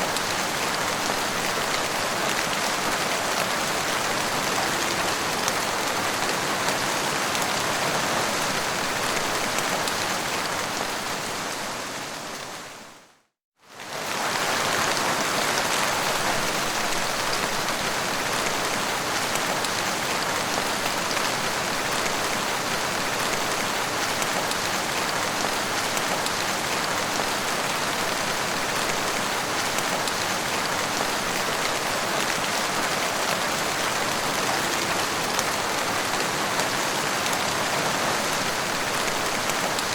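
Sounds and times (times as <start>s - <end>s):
heavy rain: 0.0s - 13.1s, 13.7s - 39.9s.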